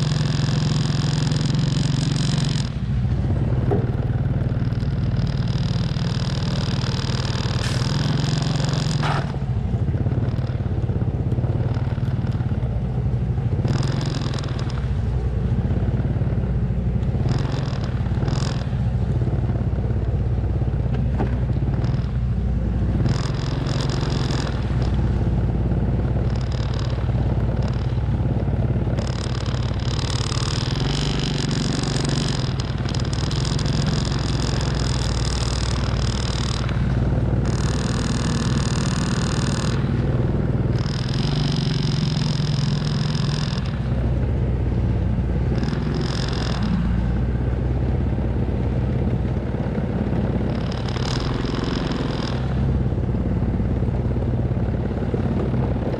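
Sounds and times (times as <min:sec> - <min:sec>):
truck engine running: 0:00.0 - 0:55.9.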